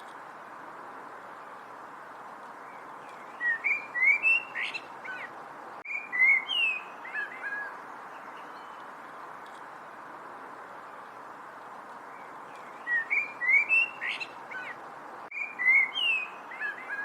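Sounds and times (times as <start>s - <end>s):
songbird singing: 0.0s - 17.0s
steady background hiss: 0.0s - 17.0s.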